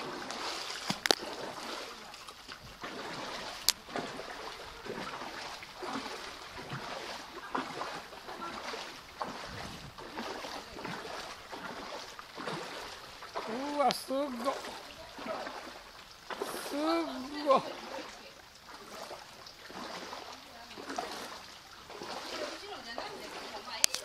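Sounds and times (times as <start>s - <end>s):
footsteps splashing in water: 0.0s - 24.0s
rain on water: 0.0s - 24.0s.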